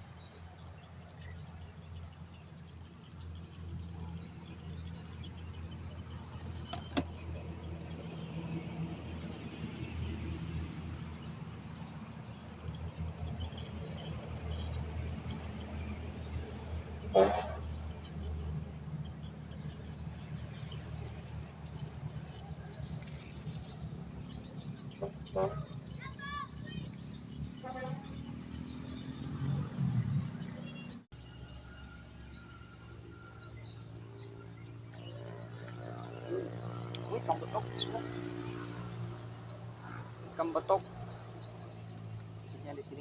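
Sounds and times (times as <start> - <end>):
insect chirring: 0.0 - 43.0.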